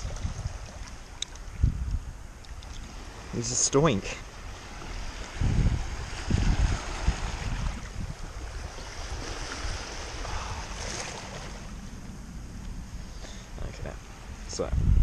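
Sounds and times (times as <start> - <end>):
shallow water lapping: 0.0 - 1.6, 2.3 - 14.5
wind buffeting microphone: 0.0 - 15.0.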